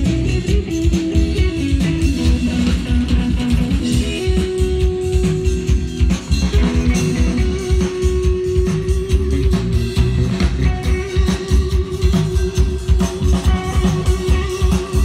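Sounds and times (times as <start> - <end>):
drum kit beat: 0.0 - 15.0
electric guitars: 0.0 - 15.0
live rock band over speakers: 0.0 - 15.0.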